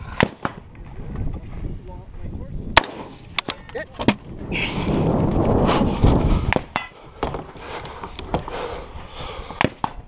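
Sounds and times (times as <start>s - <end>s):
rumbling rustling movement noise: 0.0s - 9.6s.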